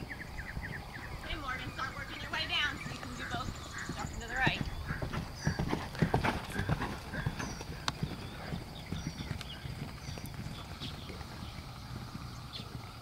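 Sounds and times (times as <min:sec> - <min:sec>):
horse hoofbeats on sand: 0:00.6 - 0:13.0.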